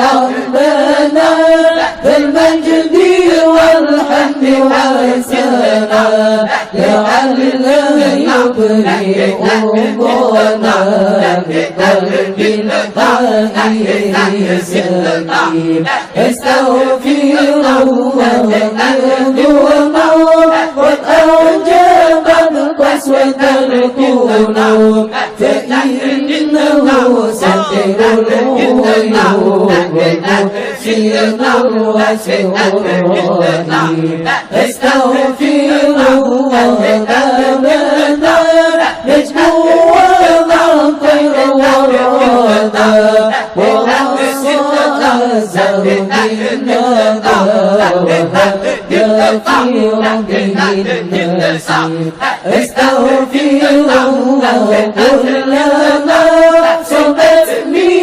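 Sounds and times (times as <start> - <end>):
voices chanting together: 0.0 - 58.0.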